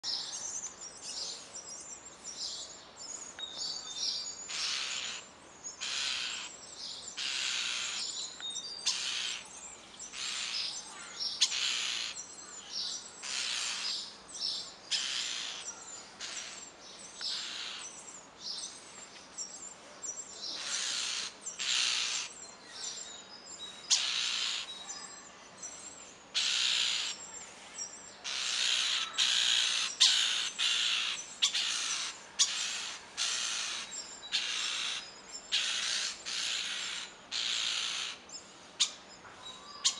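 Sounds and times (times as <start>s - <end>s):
starlings hissing calls: 0.0s - 39.9s.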